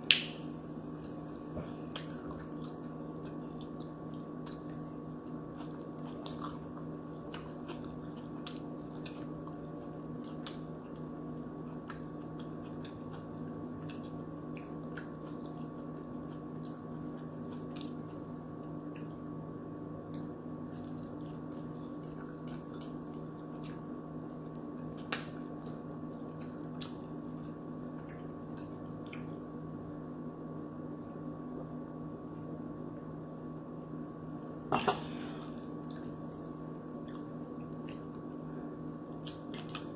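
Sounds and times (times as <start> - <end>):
steady low hum: 0.0 - 39.9
chewing and wet mouth sounds: 1.0 - 19.4, 20.1 - 29.5, 34.8 - 39.9.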